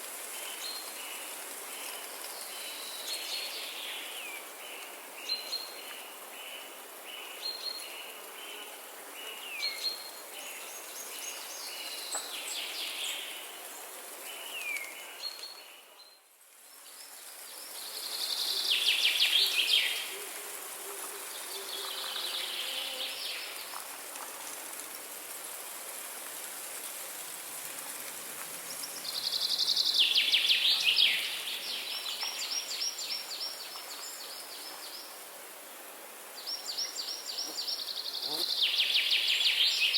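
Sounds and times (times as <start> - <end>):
outdoor ambience hiss: 0.0 - 39.9.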